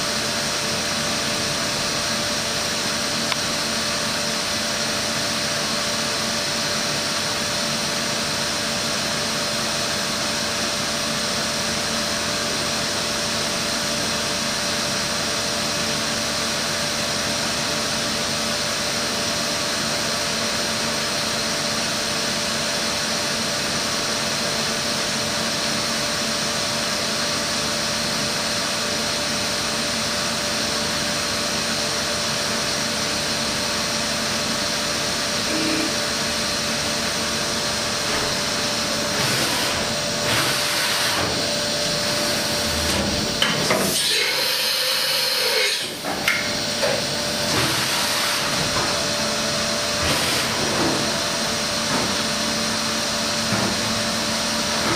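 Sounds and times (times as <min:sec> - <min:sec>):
machining centre humming and whining: 0:00.0 - 0:54.9.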